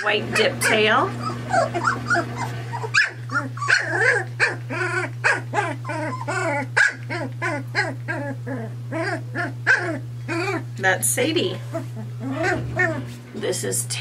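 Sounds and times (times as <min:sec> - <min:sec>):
puppy barking and whining: 0:00.0 - 0:10.8, 0:11.6 - 0:13.3.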